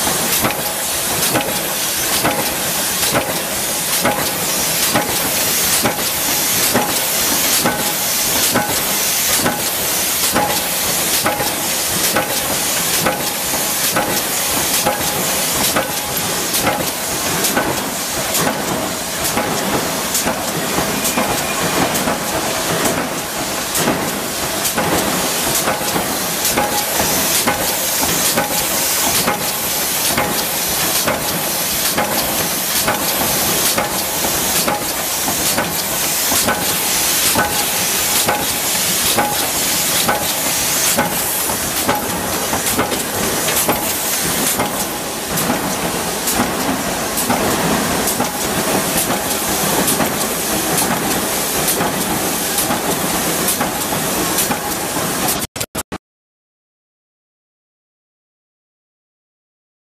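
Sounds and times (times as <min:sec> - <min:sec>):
punch press stamping metal: 0:00.0 - 0:55.4
hiss of workshop machinery: 0:00.0 - 0:55.5.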